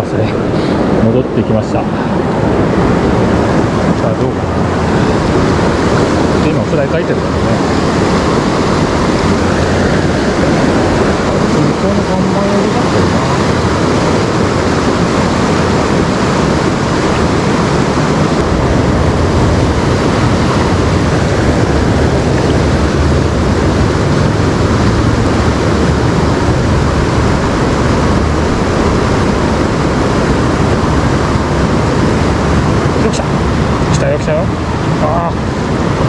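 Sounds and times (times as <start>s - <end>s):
fast river rushing: 0.0s - 36.0s.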